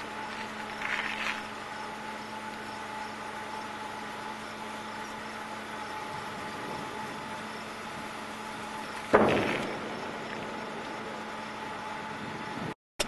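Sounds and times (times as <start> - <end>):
steady background hum: 0.0 - 12.8.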